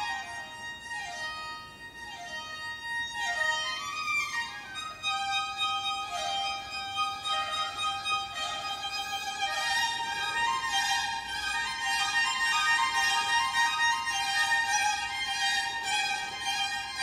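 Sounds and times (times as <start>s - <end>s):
baroque string music with violin: 0.0s - 17.0s.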